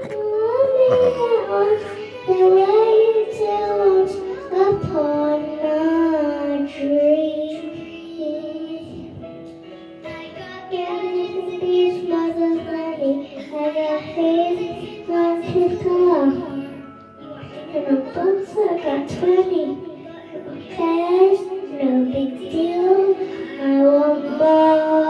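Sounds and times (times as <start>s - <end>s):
girl singing: 0.0s - 25.0s.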